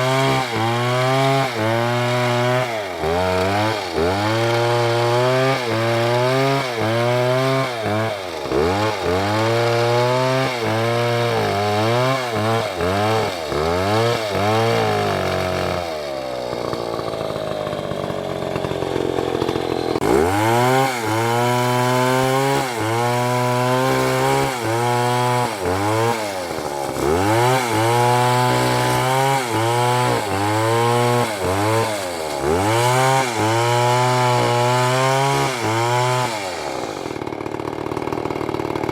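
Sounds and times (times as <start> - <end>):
chainsaw cutting wood: 0.0 - 38.9
rough noisy rasp: 0.0 - 38.9.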